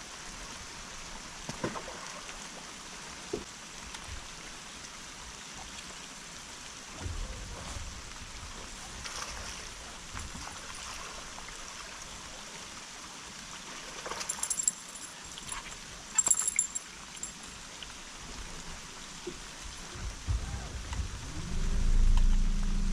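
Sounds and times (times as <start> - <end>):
steady water noise: 0.0 - 22.9.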